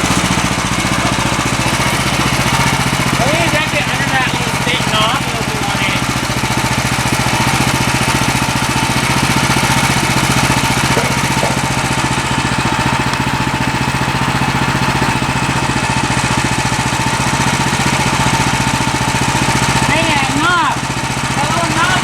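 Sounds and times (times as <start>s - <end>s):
bandsaw mill gas engine running: 0.0s - 22.0s.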